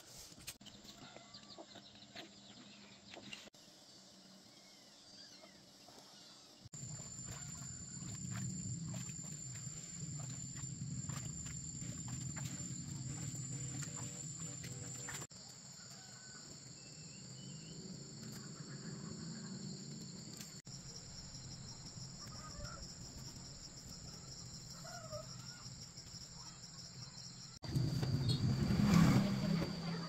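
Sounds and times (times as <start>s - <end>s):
insects chirring: 3.6s - 30.0s.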